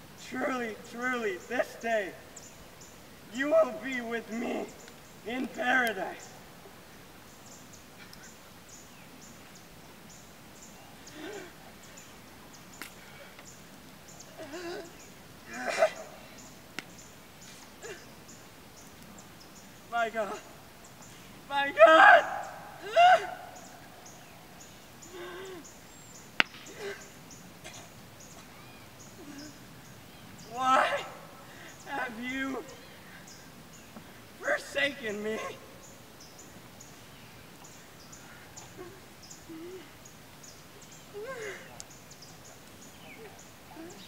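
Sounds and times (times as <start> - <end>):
faint outdoor ambience: 0.0 - 44.0
insects chirping: 0.0 - 44.0.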